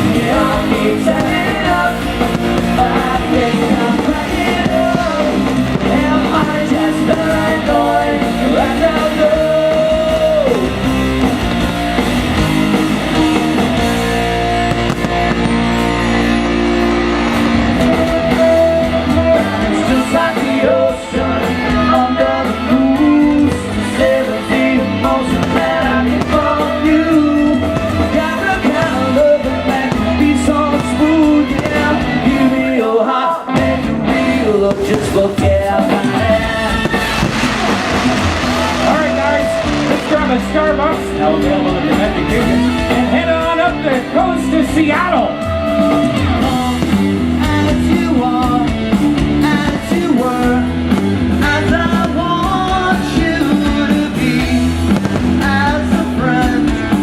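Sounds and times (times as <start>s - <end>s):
person singing: 0.0s - 10.9s, 17.8s - 43.3s, 45.4s - 57.0s
bass guitar: 0.0s - 57.0s
drums: 0.0s - 57.0s
electric guitar: 0.0s - 57.0s.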